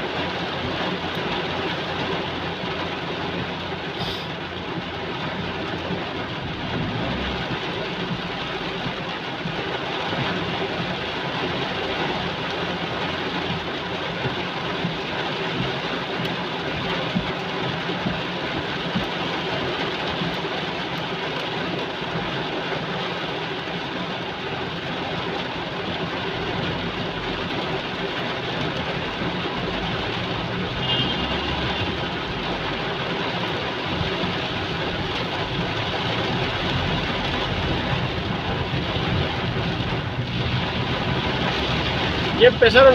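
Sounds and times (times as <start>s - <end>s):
heavy rain downpour: 0.0s - 42.9s.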